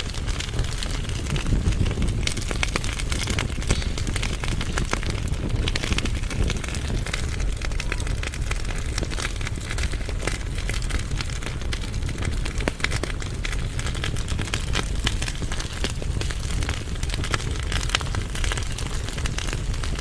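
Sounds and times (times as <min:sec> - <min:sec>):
logs crackling and popping: 0:00.0 - 0:20.0
low fire rumble: 0:00.0 - 0:20.0.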